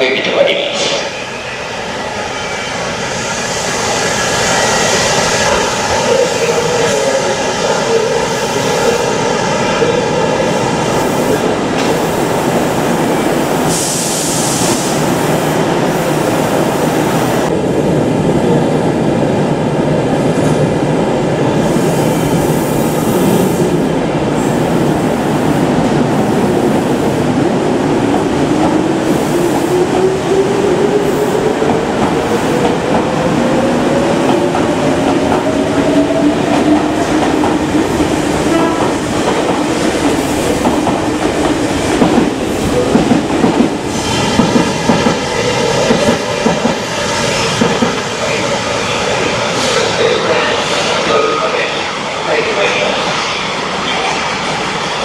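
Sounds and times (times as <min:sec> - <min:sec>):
train wheels rumbling on rails: 0:02.9 - 0:55.0.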